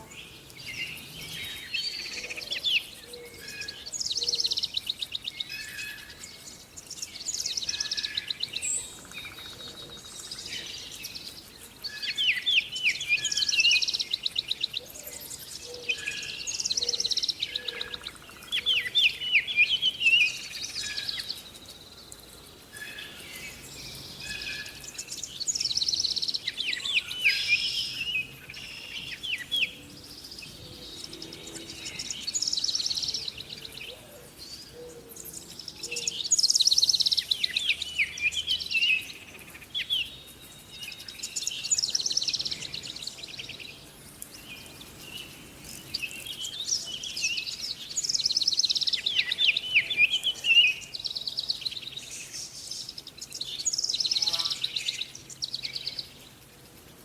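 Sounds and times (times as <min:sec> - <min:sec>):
faint steady background hiss: 0:00.0 - 0:57.0
songbirds trilling and chirping: 0:00.0 - 0:57.0.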